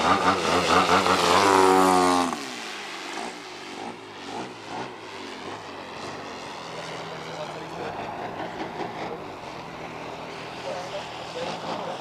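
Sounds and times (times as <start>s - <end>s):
model airplane engine and propeller: 0.0s - 12.0s.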